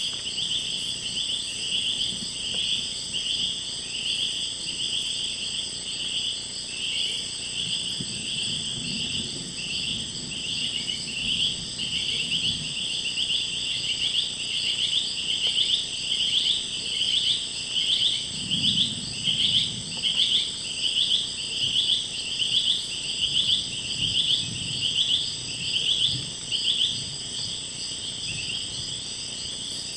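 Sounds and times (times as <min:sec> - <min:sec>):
insect calling in rhythmic pulses: 0:00.0 - 0:29.9.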